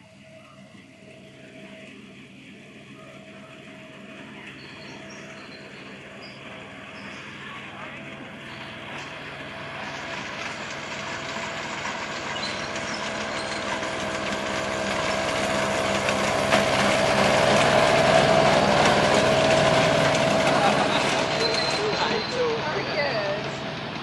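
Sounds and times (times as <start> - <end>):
locomotive engine droning: 0.0 - 24.0
wheels rattling and clicking on track: 0.0 - 24.0.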